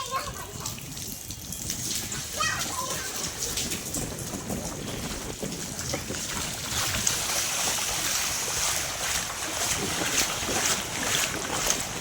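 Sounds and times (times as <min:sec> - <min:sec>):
rain falling into pooled water: 0:00.0 - 0:12.0.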